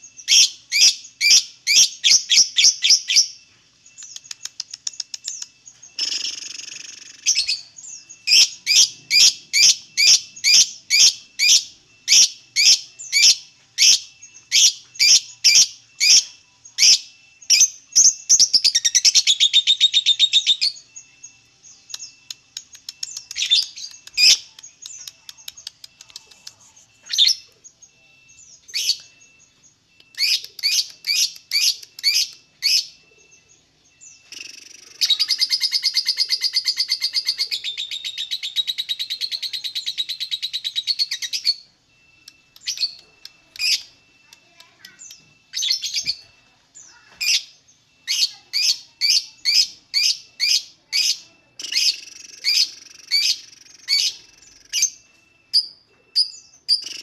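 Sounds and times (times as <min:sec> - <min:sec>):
lovebird chirping and chattering: 0:00.0 - 0:57.0.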